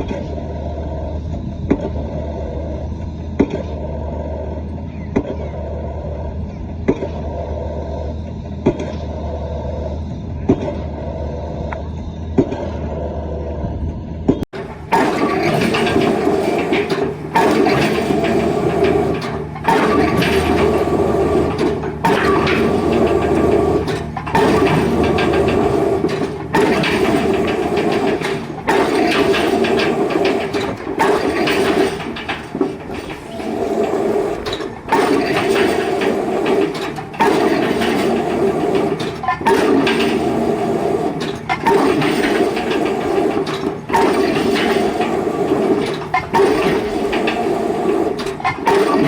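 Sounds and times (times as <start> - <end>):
excavator engine running: 0.0 - 49.0.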